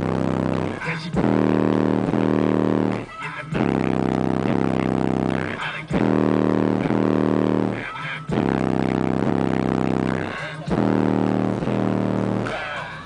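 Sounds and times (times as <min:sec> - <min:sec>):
subwoofer buzzing bass notes: 0:00.0 - 0:13.0.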